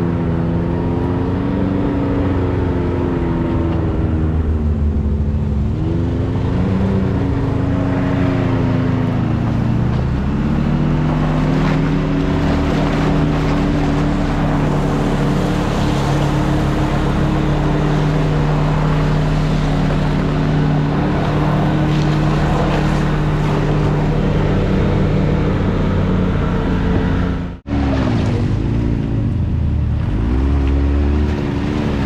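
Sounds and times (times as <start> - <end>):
utility vehicle engine running: 0.0 - 32.0.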